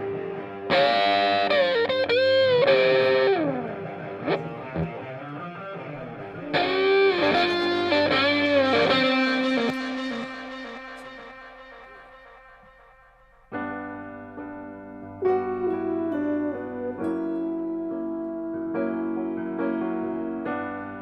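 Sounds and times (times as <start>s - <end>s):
electric guitar melodic lead: 0.0s - 21.0s.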